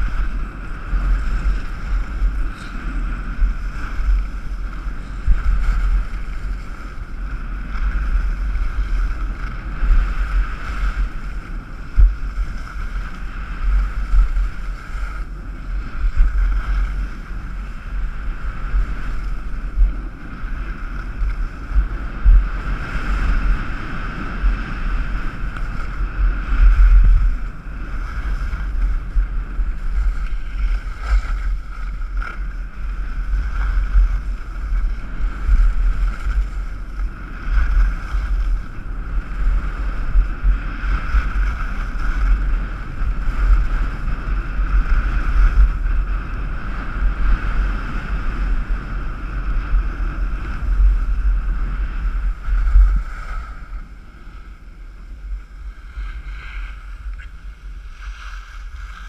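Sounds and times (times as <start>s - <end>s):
skis scraping over snow: 0.0s - 59.0s
wind buffeting microphone: 0.0s - 59.0s.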